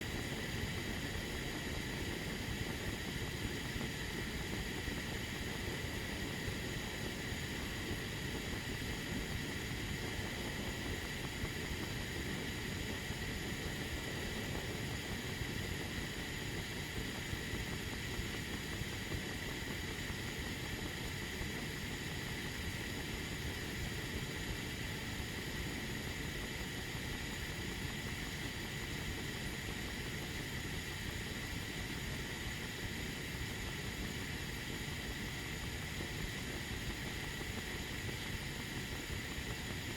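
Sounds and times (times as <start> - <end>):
kettle heating water hiss: 0.0 - 39.9.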